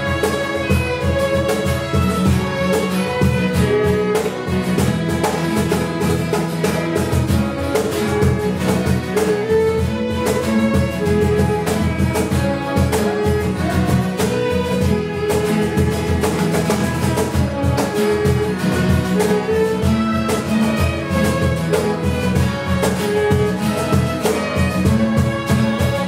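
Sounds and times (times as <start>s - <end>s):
strummed acoustic guitars: 0.0s - 26.0s
violins playing a melody: 0.0s - 26.0s.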